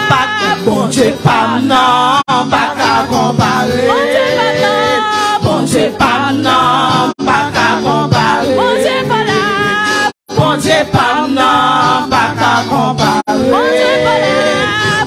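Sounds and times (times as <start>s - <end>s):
voices singing gospel song: 0.0s - 15.0s.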